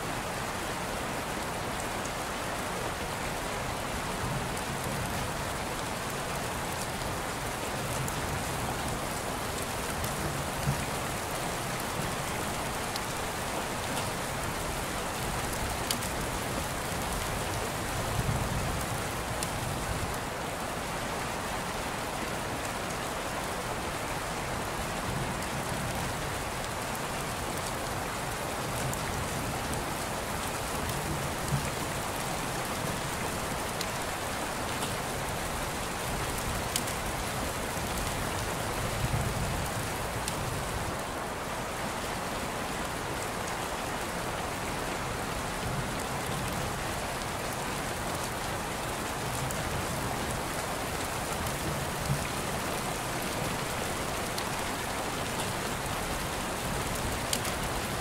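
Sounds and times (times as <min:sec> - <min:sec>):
steady rain hiss: 0:00.0 - 0:58.0
faint ticks of raindrops: 0:00.2 - 0:58.0.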